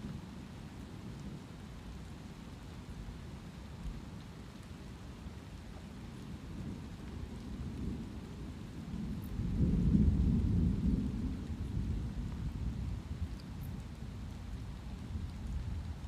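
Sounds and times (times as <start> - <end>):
light rain: 0.0 - 16.0.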